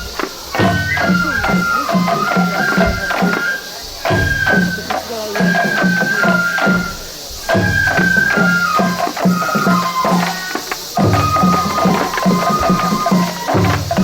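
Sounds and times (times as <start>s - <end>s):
drum strokes: 0.0s - 14.0s
high flute playing held notes: 0.0s - 14.0s.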